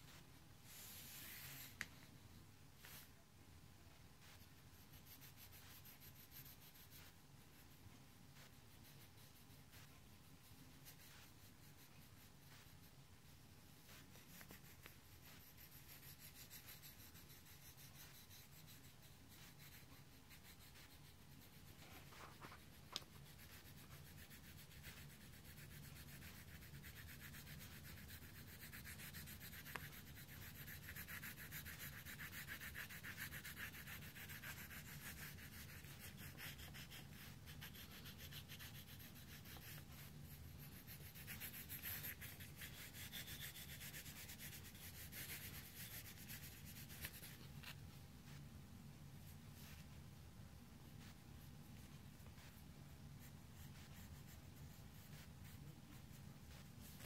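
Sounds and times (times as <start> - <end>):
pencil scratching on paper: 0.0 - 2.1, 4.0 - 48.5, 49.2 - 50.1, 50.8 - 57.0.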